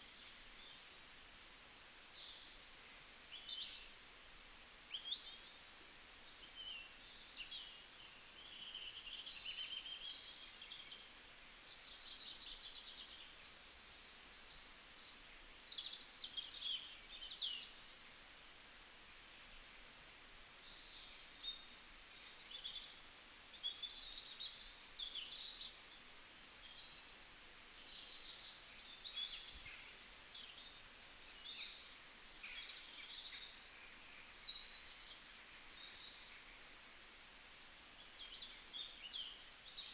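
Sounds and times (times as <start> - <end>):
faint outdoor hiss: 0.0 - 39.9
songbirds chirping and trilling: 0.0 - 39.9.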